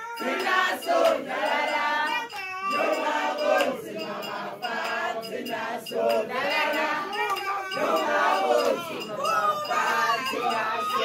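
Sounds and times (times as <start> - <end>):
women singing a chant: 0.0 - 11.0.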